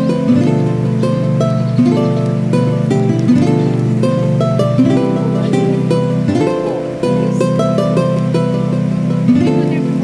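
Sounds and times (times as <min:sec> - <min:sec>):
plucked-string tune: 0:00.0 - 0:10.0.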